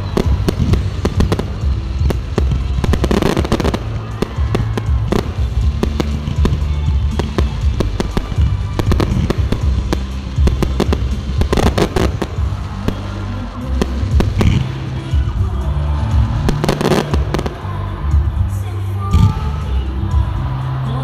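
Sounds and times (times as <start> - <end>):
fireworks bangs and cracks: 0.0 - 21.0
loud music with bass: 0.0 - 21.0.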